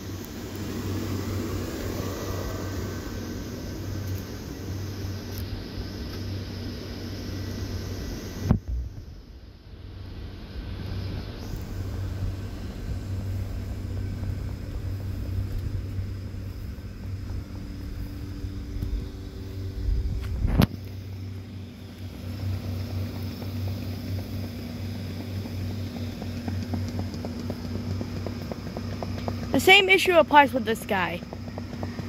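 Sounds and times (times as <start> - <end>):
blower fans humming: 0.0 - 32.0.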